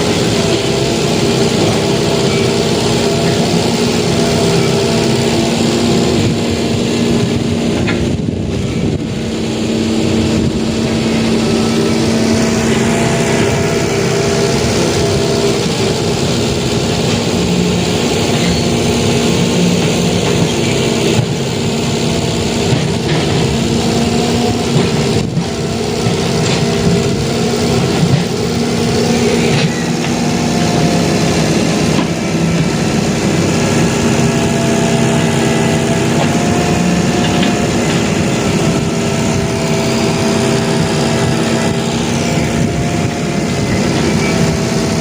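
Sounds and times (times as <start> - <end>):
excavator diesel engine humming: 0.0 - 45.0.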